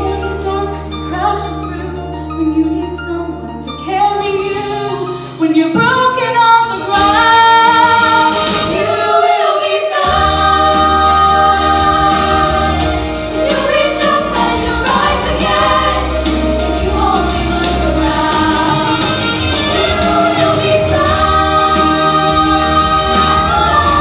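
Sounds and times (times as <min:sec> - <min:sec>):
women singing in harmony: 0:03.9 - 0:24.0.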